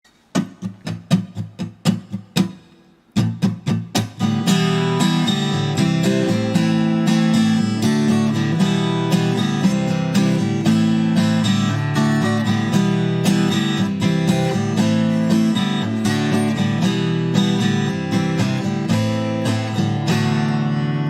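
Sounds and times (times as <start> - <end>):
acoustic guitar strumming: 0.1 - 21.0.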